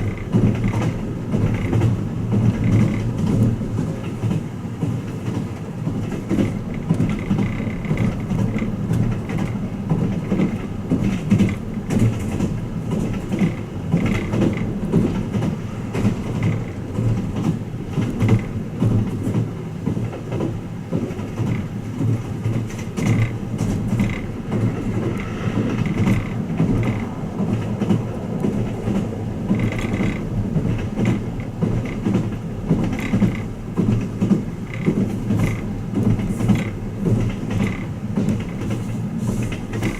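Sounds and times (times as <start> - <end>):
light rattles and clicks: 0.0 - 39.9
train wheels rumbling on rails: 0.0 - 39.9.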